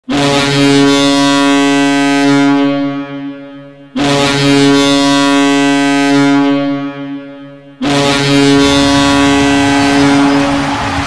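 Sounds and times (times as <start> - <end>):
arena goal horn blasts: 0.0 - 11.0.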